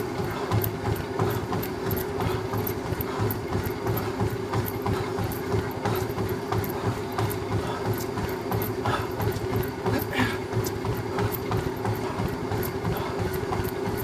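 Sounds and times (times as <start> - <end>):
footfall thuds on treadmill: 0.0 - 14.0
treadmill belt and motor hum: 0.0 - 14.0.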